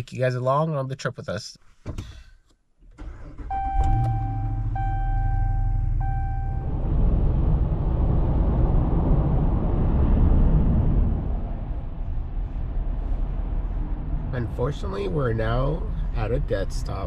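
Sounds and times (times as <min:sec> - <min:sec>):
car engine starting and idling: 0:02.8 - 0:17.0
road noise: 0:03.0 - 0:17.0.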